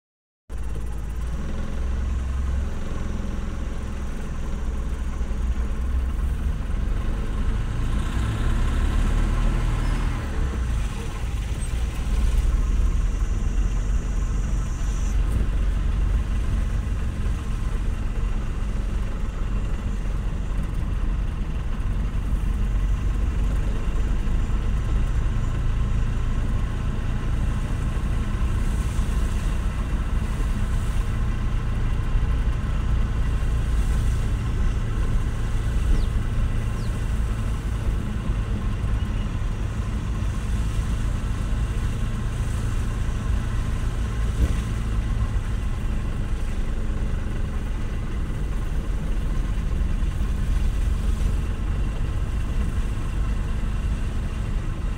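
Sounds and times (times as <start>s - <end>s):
vehicle engine and road noise: 0.5s - 54.9s.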